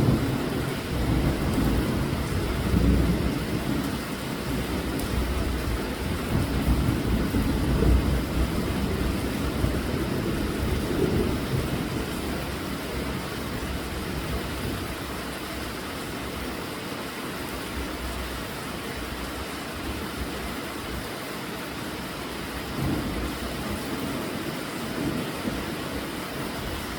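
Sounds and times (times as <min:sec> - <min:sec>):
steady rain: 0:00.0 - 0:26.9.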